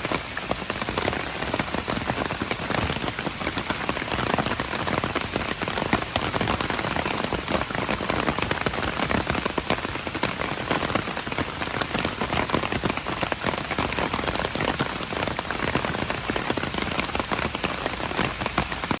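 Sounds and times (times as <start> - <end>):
rain on a hard surface: 0.0 - 19.0.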